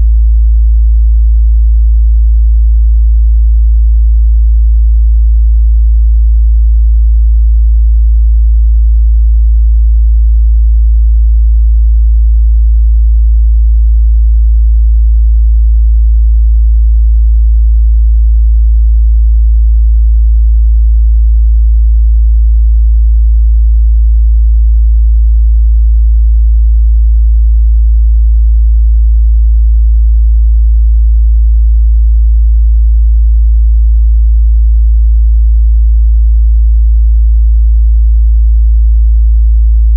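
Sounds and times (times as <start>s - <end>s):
low sine test tone: 0.0s - 39.9s.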